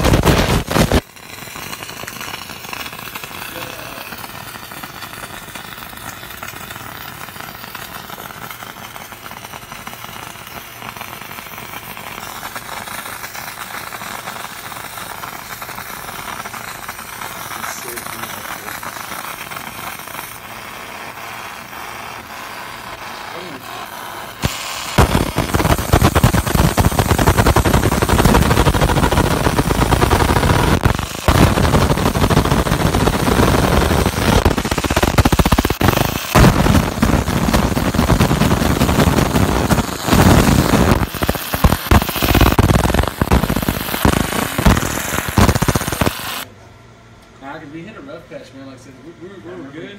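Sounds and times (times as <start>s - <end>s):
laser burning crackle: 0.0s - 46.5s.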